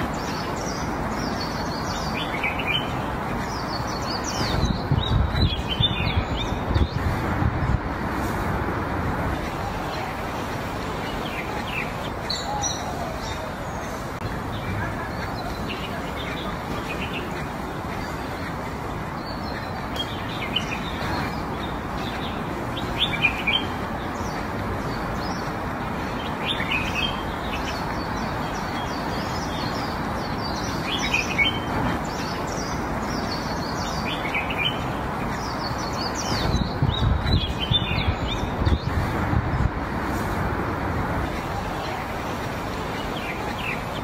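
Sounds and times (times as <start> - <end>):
small birds chirping: 0.0 - 44.0
steady outdoor hiss: 0.0 - 44.0.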